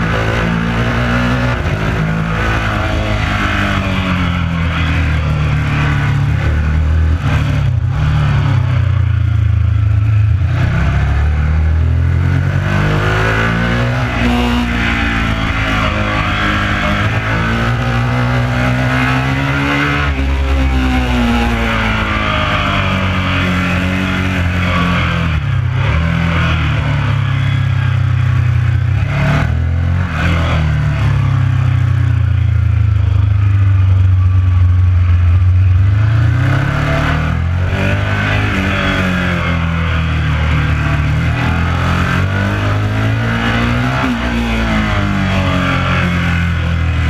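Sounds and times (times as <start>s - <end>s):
motorcycle engine at speed: 0.0s - 47.0s.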